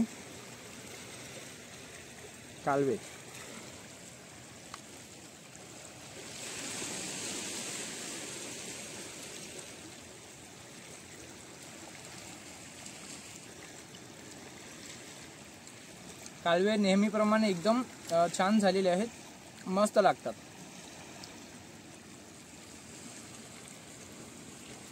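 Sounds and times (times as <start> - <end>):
seawater lapping among rocks: 0.0 - 24.9.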